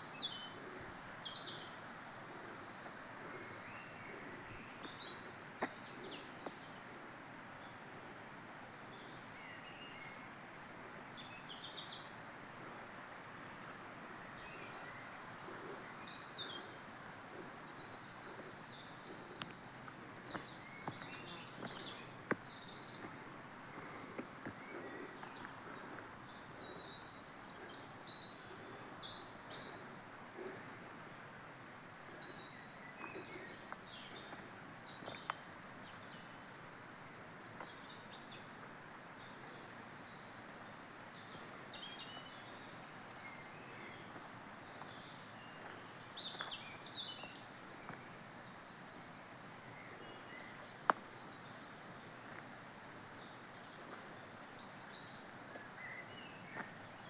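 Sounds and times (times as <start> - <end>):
small birds chirping: 0.0 - 10.2, 13.8 - 57.0
steady background hiss: 0.0 - 57.0.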